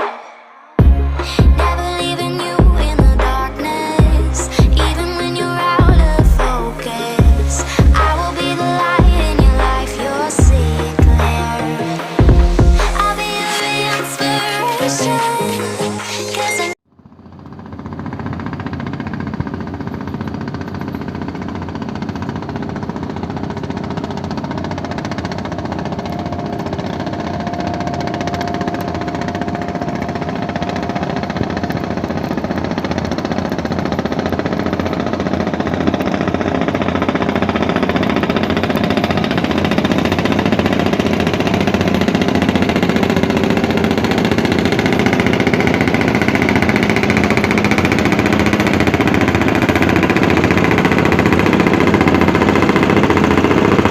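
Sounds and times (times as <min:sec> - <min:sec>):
boat engine running: 0:00.8 - 0:15.9, 0:16.9 - 0:53.9.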